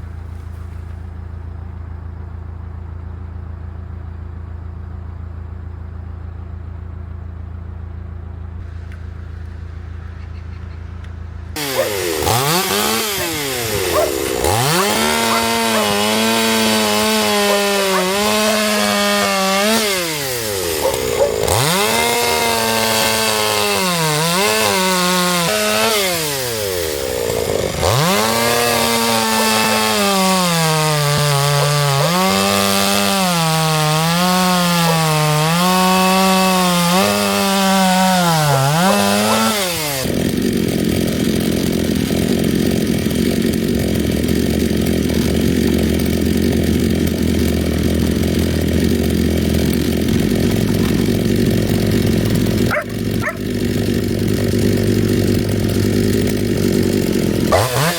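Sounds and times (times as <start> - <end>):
chainsaw cutting firewood: 0.0 - 2.2, 10.9 - 57.9.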